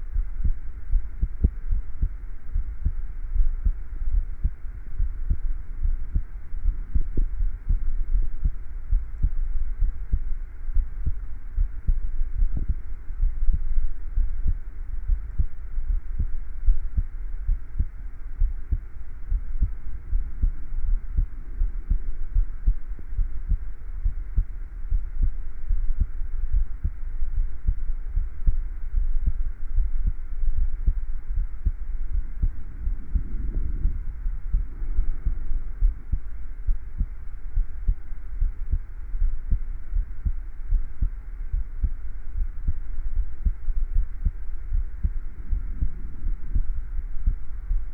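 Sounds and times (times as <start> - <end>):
heartbeat thumps: 0.0 - 47.9.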